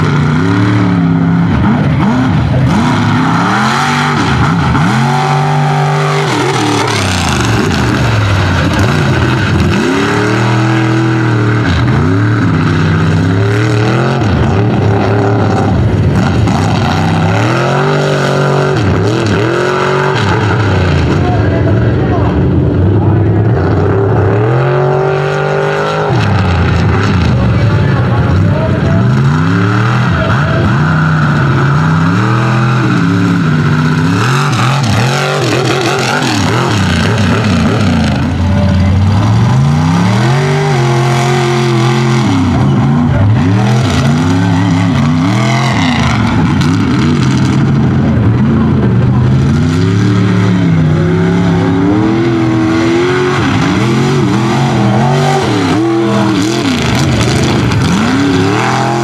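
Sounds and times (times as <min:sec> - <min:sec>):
truck engines revving: 0:00.0 - 0:59.0.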